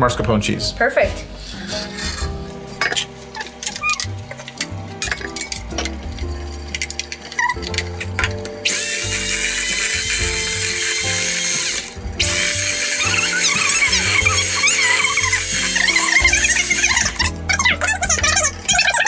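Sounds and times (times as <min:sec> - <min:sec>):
electric hand mixer running: 0:01.6 - 0:19.0.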